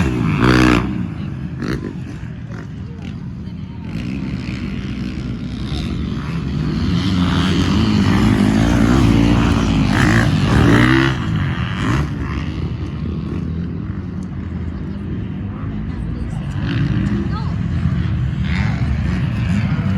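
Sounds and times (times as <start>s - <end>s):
dirt bike engine revving: 0.0s - 13.7s, 16.2s - 19.9s.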